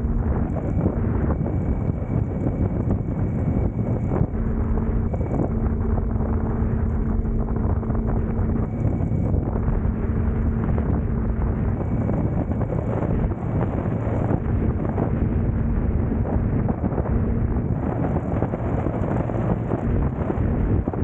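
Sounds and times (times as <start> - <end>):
motorcycle engine hum: 0.0 - 21.0
wind rushing over microphone: 0.0 - 21.0.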